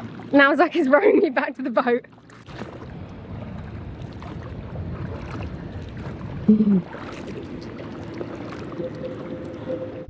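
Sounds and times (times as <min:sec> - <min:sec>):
water washing around rowed boat: 0:00.0 - 0:10.0.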